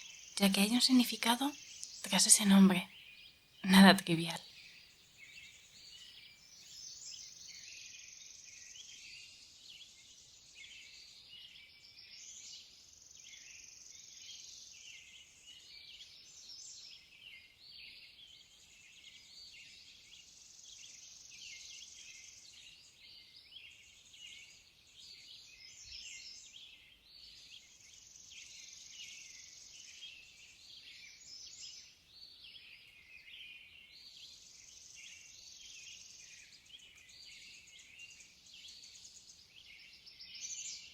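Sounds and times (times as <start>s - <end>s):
small birds chirping and singing: 0.0s - 40.9s.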